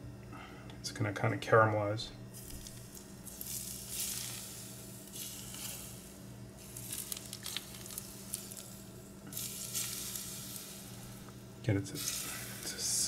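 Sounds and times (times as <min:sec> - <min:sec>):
hot oil sizzling on fish: 0:02.3 - 0:13.0
oil crackles: 0:02.4 - 0:13.0.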